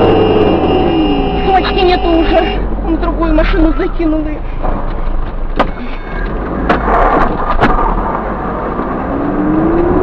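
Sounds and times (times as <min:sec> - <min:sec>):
road noise: 0:00.0 - 0:10.0
vehicle engine hum: 0:00.0 - 0:10.0.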